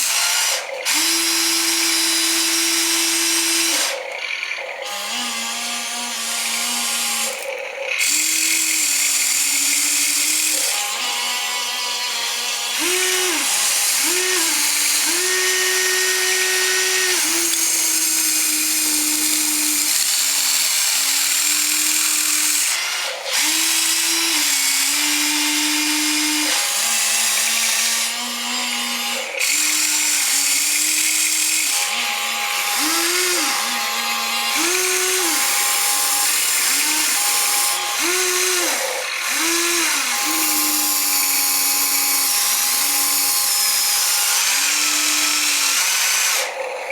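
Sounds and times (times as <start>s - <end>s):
small electric motor whining: 0.0s - 46.9s.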